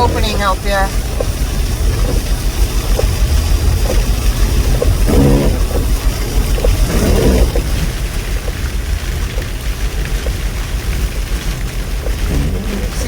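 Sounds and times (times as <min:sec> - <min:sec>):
faint ticking: 0:00.0 - 0:13.0
storm wind buffeting microphone: 0:00.0 - 0:13.0.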